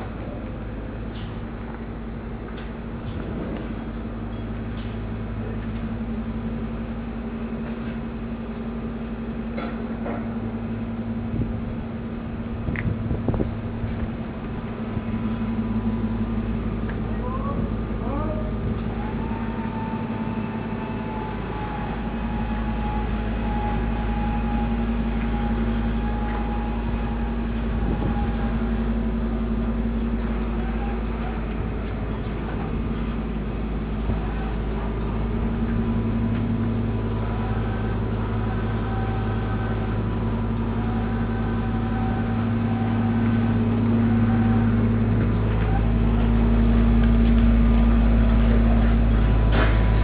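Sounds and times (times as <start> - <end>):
low rumble: 0.0 - 50.0
machine drone with held tones: 0.0 - 50.0.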